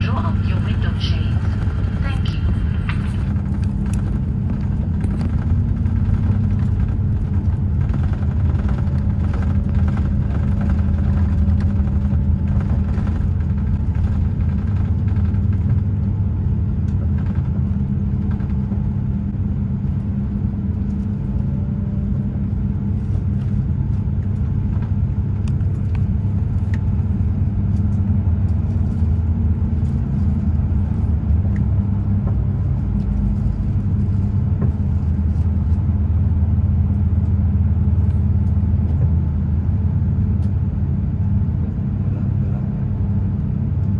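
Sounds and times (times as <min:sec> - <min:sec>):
aircraft cabin rumble: 0:00.0 - 0:43.9.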